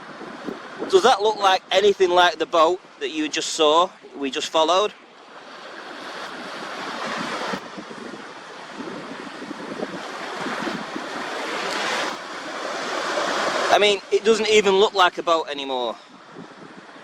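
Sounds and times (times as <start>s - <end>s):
wind on microphone: 0.0s - 3.1s, 5.3s - 17.0s
waves washing on shore: 0.0s - 17.0s.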